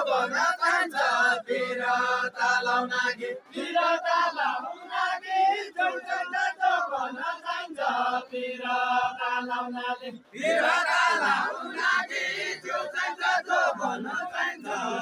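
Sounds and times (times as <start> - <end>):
men singing in chanting chorus: 0.0 - 15.0.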